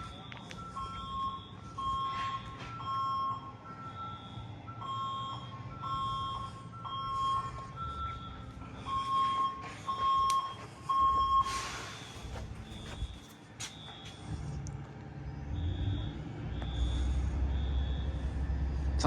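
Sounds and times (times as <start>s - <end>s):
fire alarm beeping: 0.0s - 14.6s, 15.5s - 18.6s.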